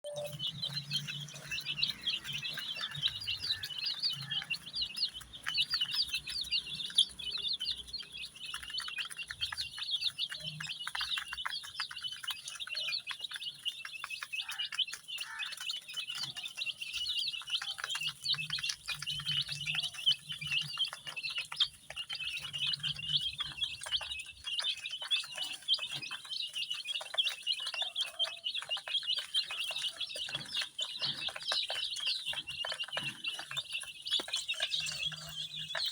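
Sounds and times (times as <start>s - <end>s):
baby chicks cheeping: 0.0s - 35.9s.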